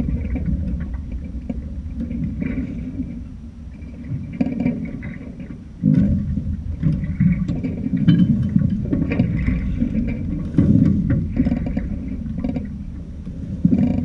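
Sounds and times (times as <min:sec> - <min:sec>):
knocks and splashes: 0:00.0 - 0:14.0
rushing water: 0:00.0 - 0:14.0.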